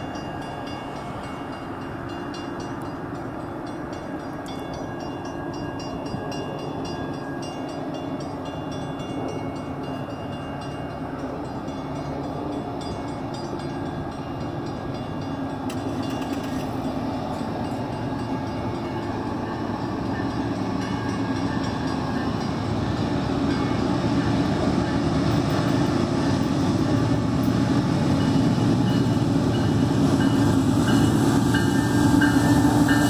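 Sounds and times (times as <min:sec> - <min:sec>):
diesel locomotive engine drone: 0:00.0 - 0:33.0.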